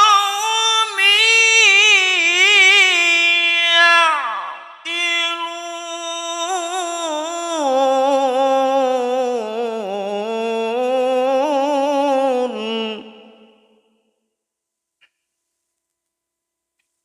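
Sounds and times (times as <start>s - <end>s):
man reciting melodically: 0.0s - 13.9s.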